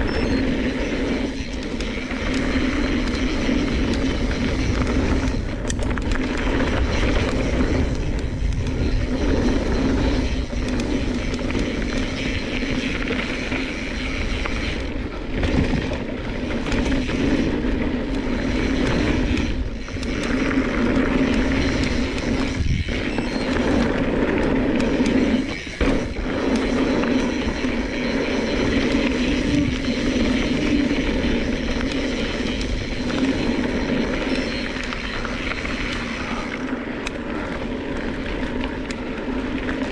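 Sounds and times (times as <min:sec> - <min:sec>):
bike rattling: 0:00.0 - 0:39.9
steady buzz: 0:00.0 - 0:39.9
wind buffeting microphone: 0:00.0 - 0:39.9.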